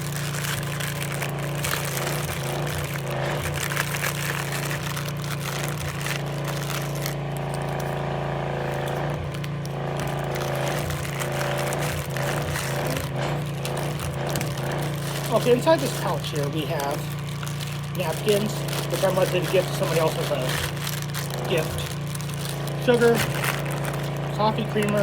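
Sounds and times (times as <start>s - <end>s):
plastic packaging crinkling: 0.0s - 25.0s
steady low hum: 0.0s - 25.0s.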